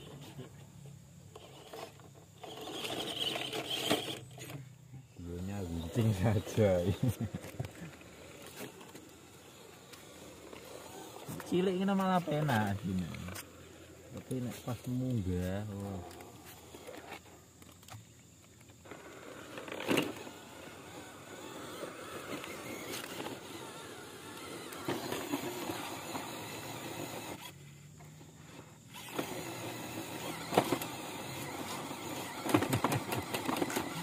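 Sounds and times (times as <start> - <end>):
small electric motor whining: 0.0 - 34.0.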